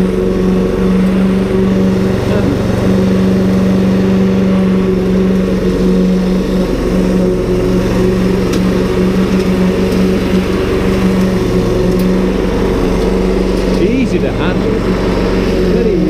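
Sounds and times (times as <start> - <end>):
petrol lawn mower running: 0.0 - 16.0.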